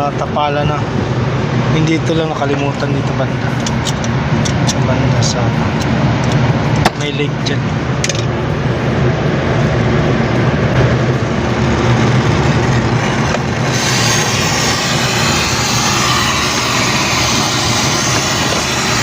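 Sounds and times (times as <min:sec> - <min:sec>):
machinery low hum and hiss: 0:00.0 - 0:19.0.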